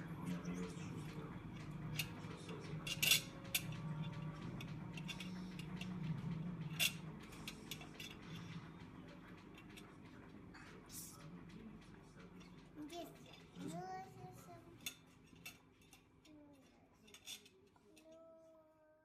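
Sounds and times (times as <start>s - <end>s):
steady low hum: 0.0s - 18.7s
cutlery and dishes clinking: 0.4s - 18.2s.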